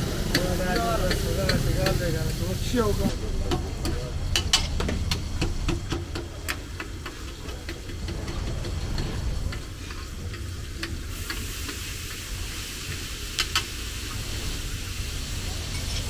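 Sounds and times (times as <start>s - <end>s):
liver sizzling on iron pan: 0.0s - 16.0s.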